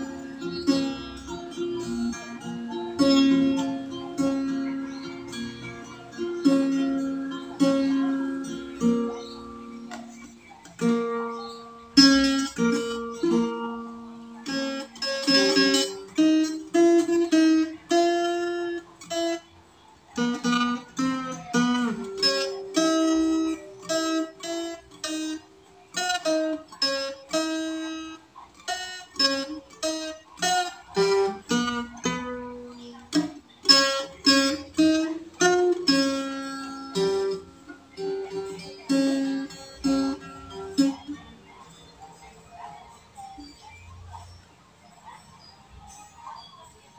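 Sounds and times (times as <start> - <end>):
acoustic guitar fingerpicked: 0.0 - 46.9.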